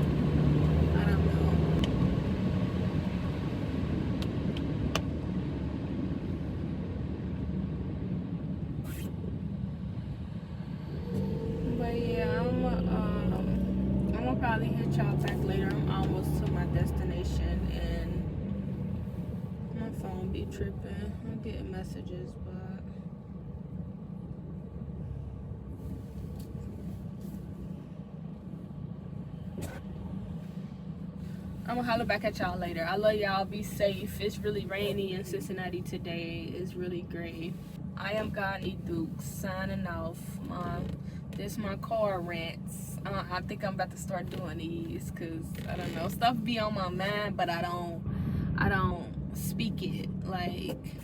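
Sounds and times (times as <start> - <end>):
car road and engine rumble: 0.0 - 51.0.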